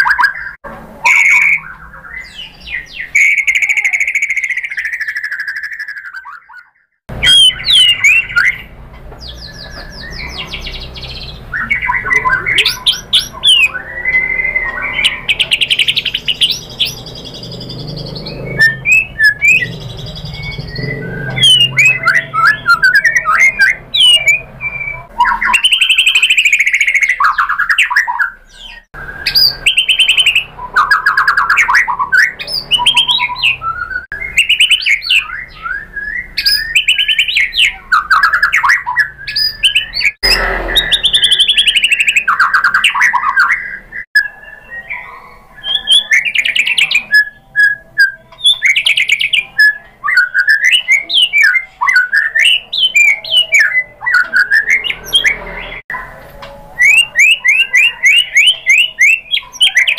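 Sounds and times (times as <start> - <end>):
songbird singing whistles and trills: 0.0 - 59.9.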